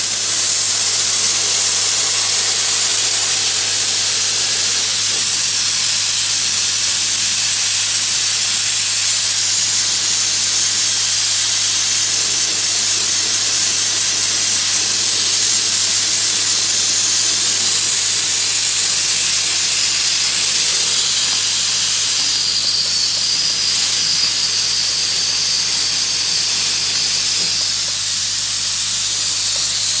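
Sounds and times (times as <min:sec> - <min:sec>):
bead-blasting nozzle hissing: 0:00.0 - 0:30.0.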